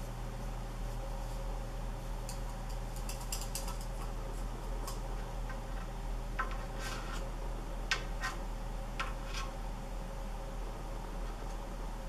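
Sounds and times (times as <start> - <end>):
ceiling fan clicking and ticking: 0.0 - 12.0
steady low hum: 0.0 - 12.0.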